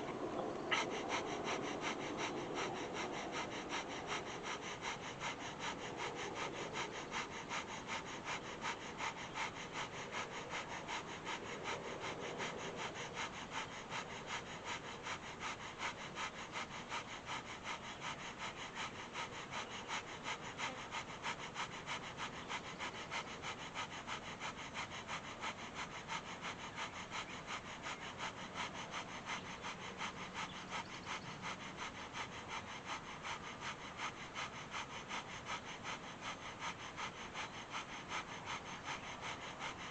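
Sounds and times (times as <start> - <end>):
rapid nasal breathing: 0.0 - 39.9.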